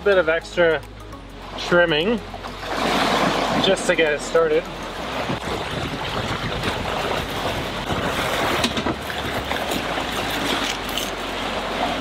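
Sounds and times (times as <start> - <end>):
water rushing past boat hull: 1.4 - 12.0.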